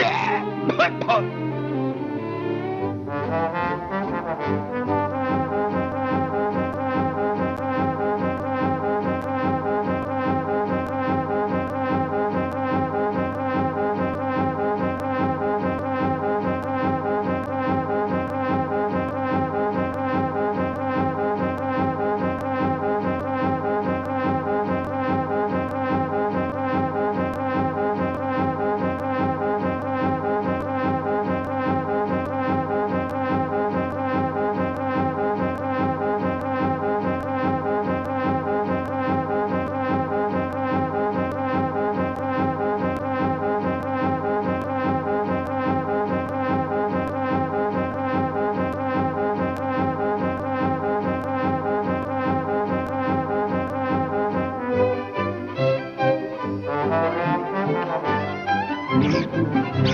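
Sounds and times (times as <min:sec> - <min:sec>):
stuttering brass tone: 0:03.1 - 0:55.2, 0:56.0 - 0:58.3, 0:58.9 - 0:59.9.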